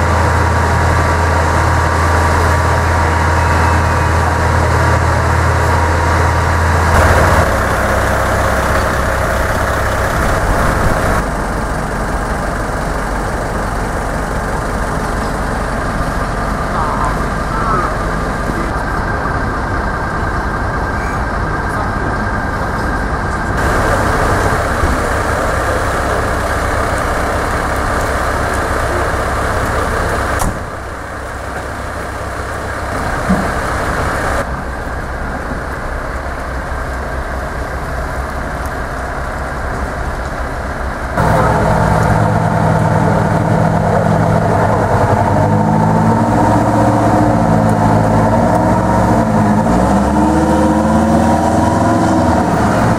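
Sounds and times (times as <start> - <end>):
diesel engines idling: 0.0 - 52.9
truck engine droning past: 0.0 - 52.9.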